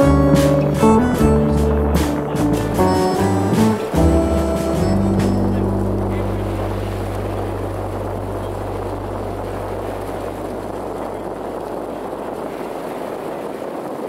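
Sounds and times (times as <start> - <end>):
low hum: 0.0 - 13.0
boat engine: 0.0 - 14.0
water rushing: 0.0 - 14.0.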